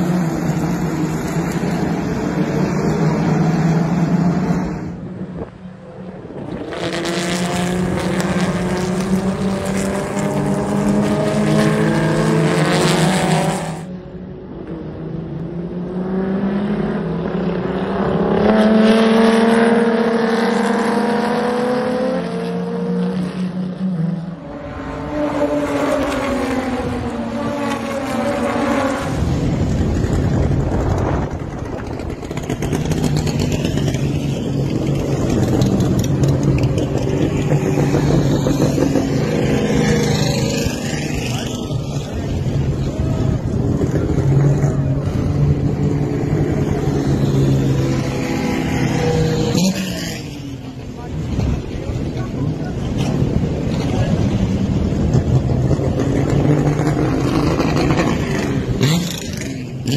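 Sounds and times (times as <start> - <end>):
race car engines passing by: 0.0 - 59.9.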